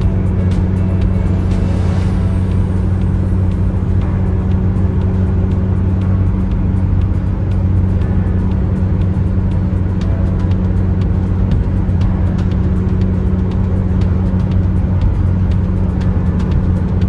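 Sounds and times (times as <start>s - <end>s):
car driving: 0.0s - 17.0s.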